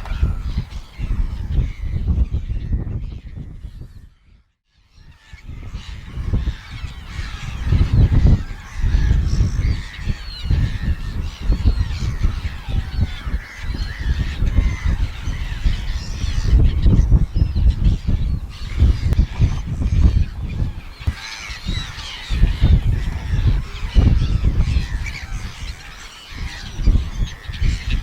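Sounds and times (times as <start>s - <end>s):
seagulls calling: 0.0s - 4.0s, 4.9s - 28.0s
wind buffeting microphone: 0.0s - 28.0s.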